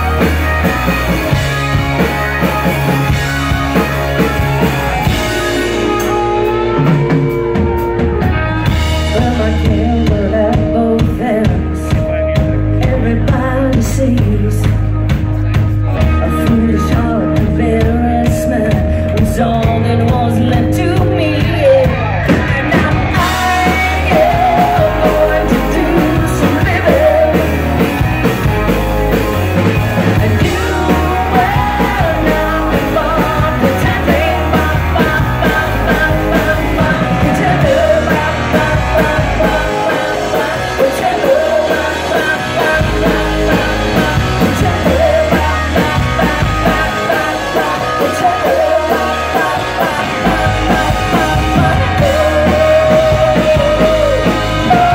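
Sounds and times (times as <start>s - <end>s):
live rock band playing: 0.0s - 54.9s
woman singing lead vocal: 5.0s - 15.0s, 16.0s - 29.2s, 30.0s - 54.9s.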